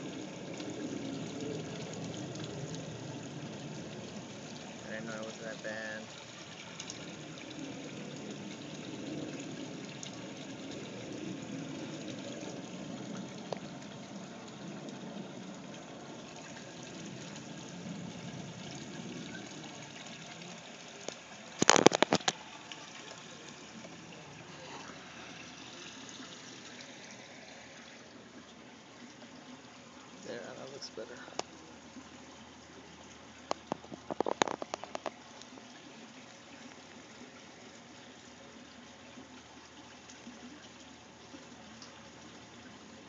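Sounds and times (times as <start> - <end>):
water trickling in fish tank: 0.0 - 43.0.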